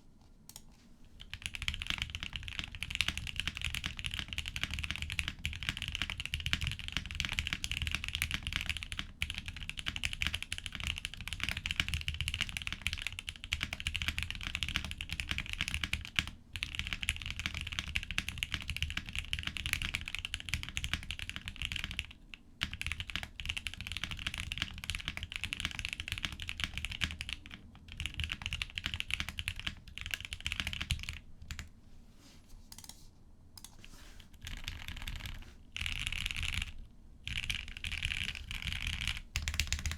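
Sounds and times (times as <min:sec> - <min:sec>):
mechanical keyboard typing: 0:00.5 - 0:31.7, 0:32.7 - 0:33.0, 0:33.6 - 0:39.9.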